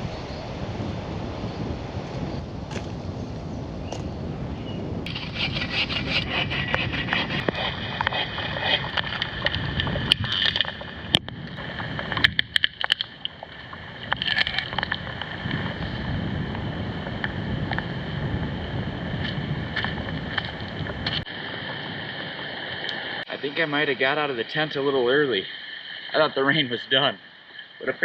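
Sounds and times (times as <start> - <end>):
wind on microphone: 0.0 - 23.3.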